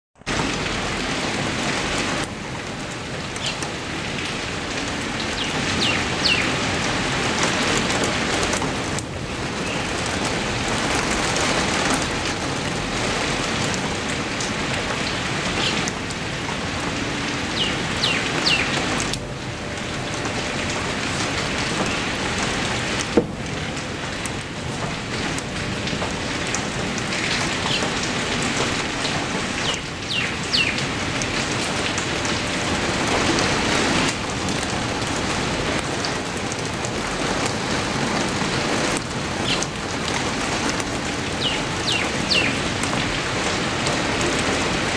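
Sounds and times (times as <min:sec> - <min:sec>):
heavy rain on leaves: 0:00.2 - 0:44.9.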